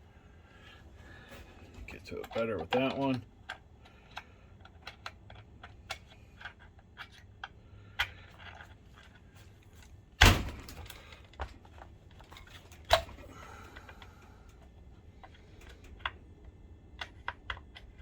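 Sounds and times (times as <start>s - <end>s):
tools clicking on plastic casing: 2.1s - 9.3s, 10.6s - 18.0s.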